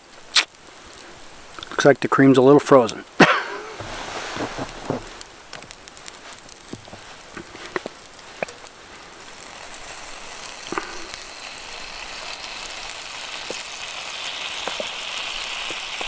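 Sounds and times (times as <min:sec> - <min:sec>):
cream and butter sizzling in pan: 0:00.0 - 0:16.0.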